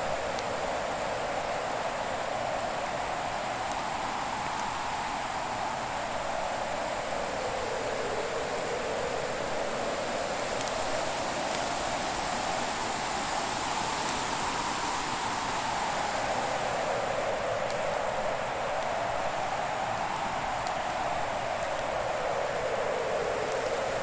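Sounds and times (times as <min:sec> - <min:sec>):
faint fire crackles: 0:00.0 - 0:24.0.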